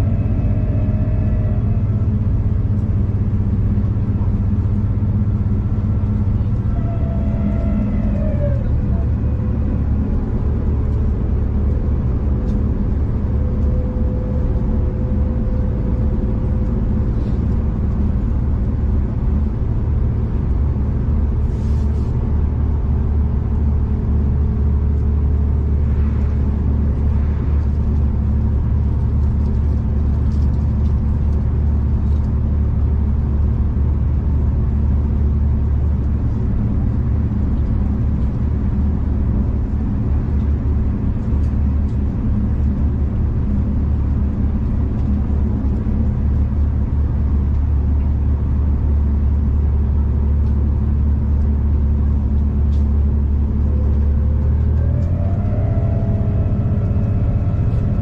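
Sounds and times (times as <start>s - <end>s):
train rumbling from inside: 0.0s - 58.0s.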